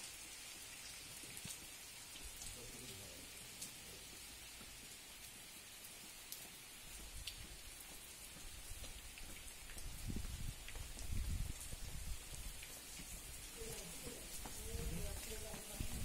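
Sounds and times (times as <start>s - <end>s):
rain hissing: 0.0s - 16.0s
sharp drips: 0.0s - 16.0s.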